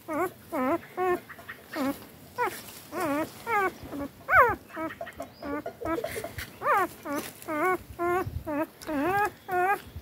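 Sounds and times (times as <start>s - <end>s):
puppy whimpering: 0.0s - 10.0s.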